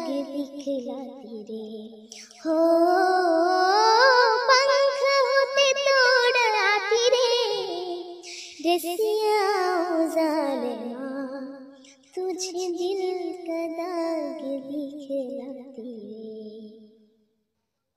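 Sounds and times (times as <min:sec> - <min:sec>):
girl singing unaccompanied: 0:00.0 - 0:16.9.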